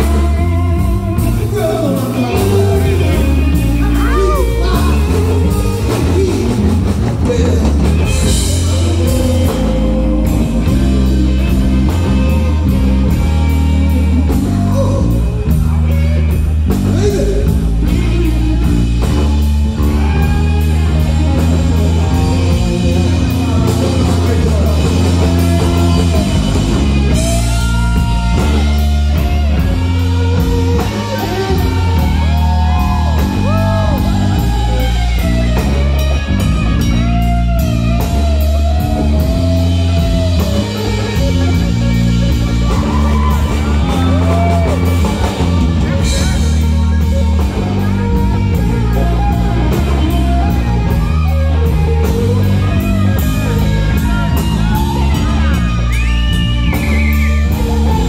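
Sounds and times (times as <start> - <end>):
bass guitar: 0.0 - 58.0
drum kit: 0.0 - 58.0
electric guitar: 0.0 - 58.0
person singing: 0.0 - 58.0.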